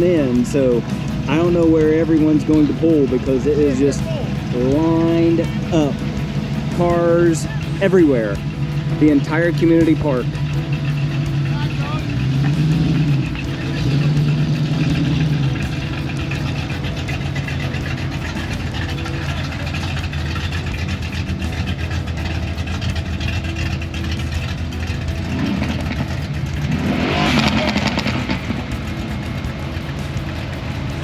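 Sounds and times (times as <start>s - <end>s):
car engines passing slowly: 0.0s - 31.0s
vehicle passing close: 0.0s - 31.0s.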